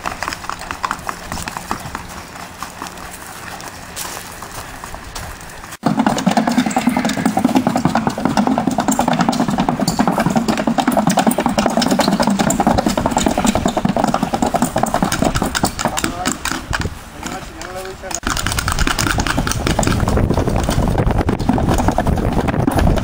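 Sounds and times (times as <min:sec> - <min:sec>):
hooves drumming on wooden board: 0:00.0 - 0:23.0.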